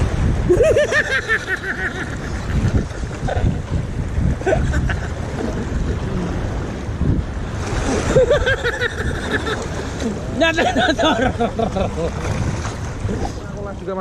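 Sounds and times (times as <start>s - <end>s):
sea: 0.0s - 14.0s
wind buffeting microphone: 0.0s - 14.0s.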